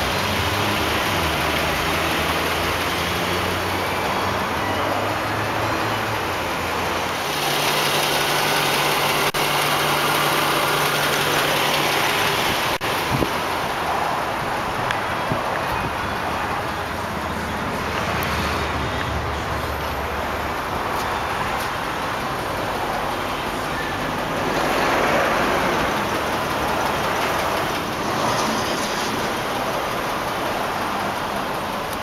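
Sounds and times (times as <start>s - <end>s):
road traffic hiss: 0.0s - 32.0s.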